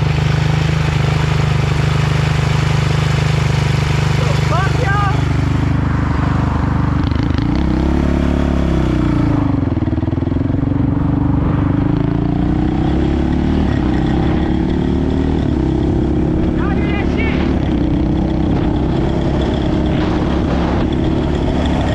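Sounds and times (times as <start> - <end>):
quad engine running: 0.0 - 21.9.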